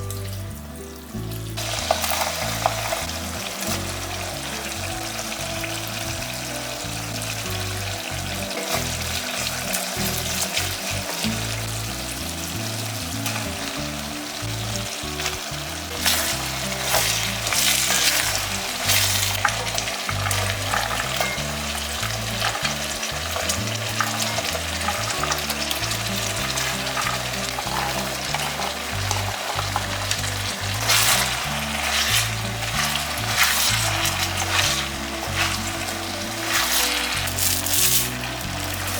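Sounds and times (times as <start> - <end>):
food sizzling in a pan: 0.0 - 38.9
soft background music: 0.0 - 38.9.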